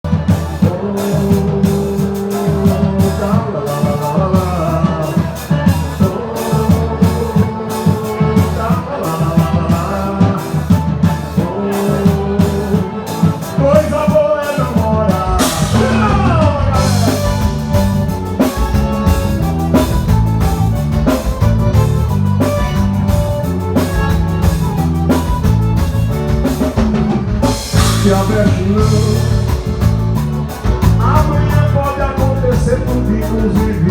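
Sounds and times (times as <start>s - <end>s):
accordion melody: 0.0s - 33.9s
zabumba drum beat: 0.0s - 33.9s.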